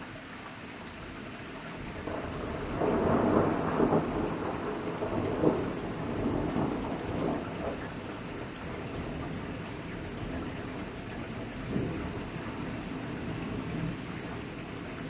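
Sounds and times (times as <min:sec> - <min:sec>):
steady rain: 0:00.0 - 0:15.0
rolling thunder: 0:01.9 - 0:15.0.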